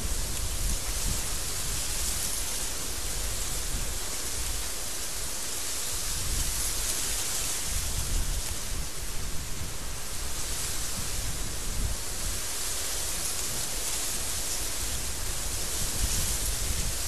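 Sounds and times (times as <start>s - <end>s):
strong wind blowing: 0.0s - 4.8s, 5.9s - 17.0s.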